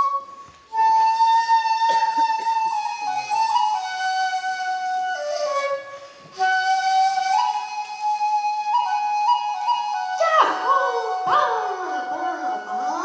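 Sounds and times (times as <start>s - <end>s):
shakuhachi flute melody: 0.0s - 13.0s.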